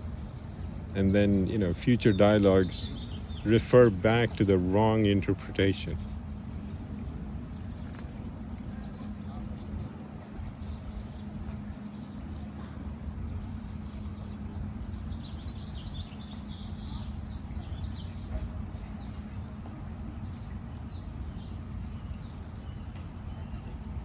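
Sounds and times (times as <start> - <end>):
songbird chirping: 0.0 - 24.0
steady low rumble: 0.0 - 24.0.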